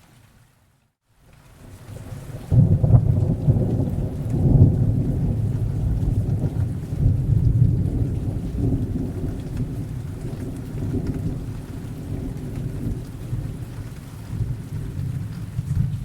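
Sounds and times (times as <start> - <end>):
steady rain: 0.0 - 16.0
rolling thunder: 2.0 - 16.0.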